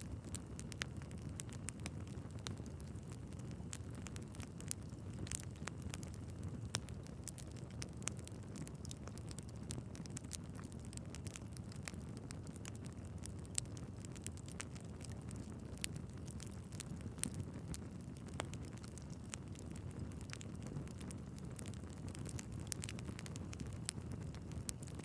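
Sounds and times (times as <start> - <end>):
logs crackling and popping: 0.0 - 25.0
low rumble of flames: 0.0 - 25.0.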